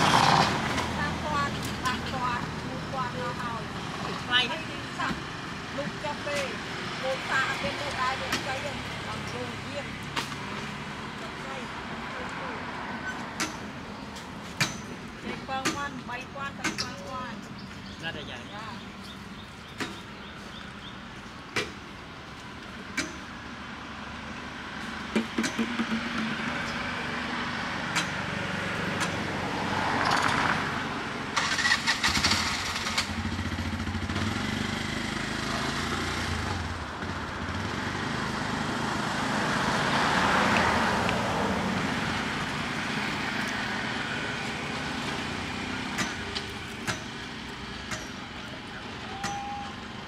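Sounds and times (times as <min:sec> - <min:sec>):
motor vehicles passing: 0:00.0 - 0:50.0
steady background noise: 0:00.0 - 0:50.0.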